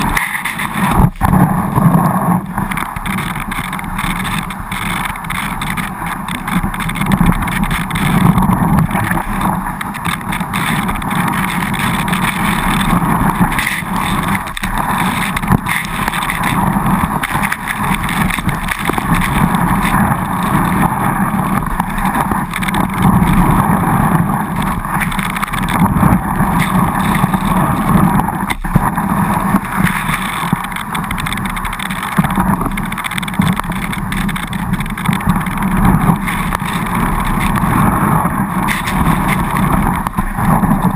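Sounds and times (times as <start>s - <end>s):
skis running over snow: 0.0s - 40.9s.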